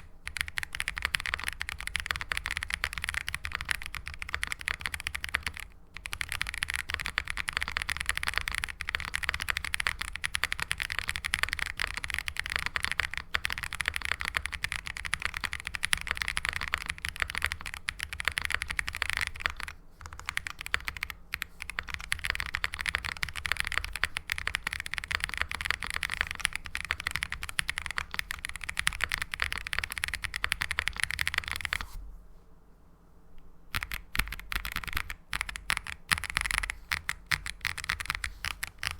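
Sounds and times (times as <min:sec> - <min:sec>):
mechanical keyboard typing: 0:00.0 - 0:31.9, 0:33.7 - 0:38.9.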